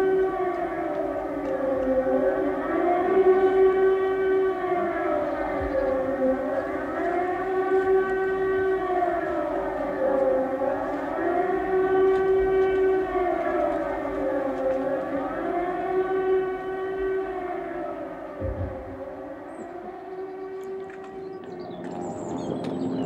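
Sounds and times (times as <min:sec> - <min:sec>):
air-raid siren wailing: 0:00.0 - 0:23.0.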